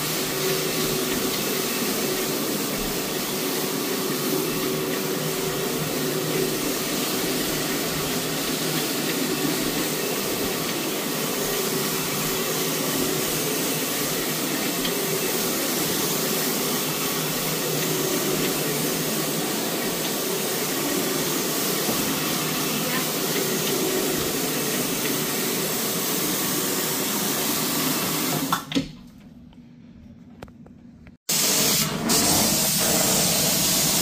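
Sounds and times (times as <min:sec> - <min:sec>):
floor machine running: 0:00.0 - 0:28.5, 0:31.3 - 0:34.0.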